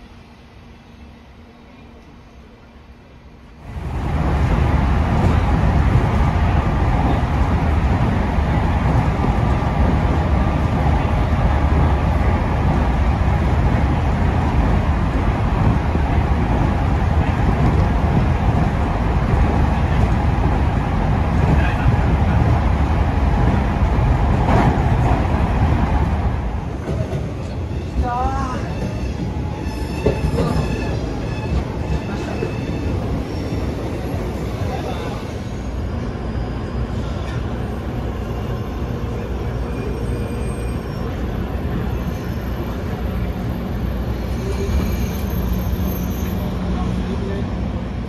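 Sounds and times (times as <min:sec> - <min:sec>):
train motors and wheels rumbling: 0:00.0 - 0:48.0.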